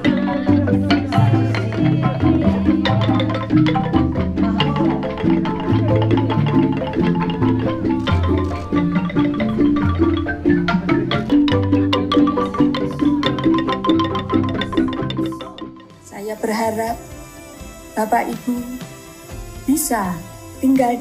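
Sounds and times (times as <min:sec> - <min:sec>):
bamboo xylophone playing: 0:00.0 - 0:21.0.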